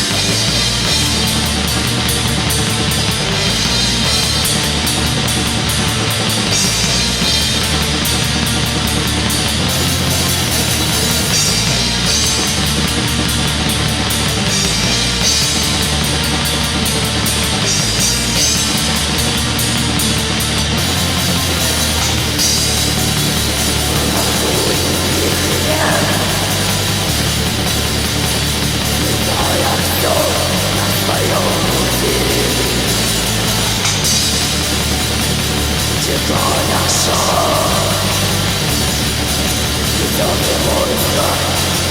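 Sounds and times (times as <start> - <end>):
distorted guitars: 0.0 - 41.9
drum kit playing: 0.0 - 41.9.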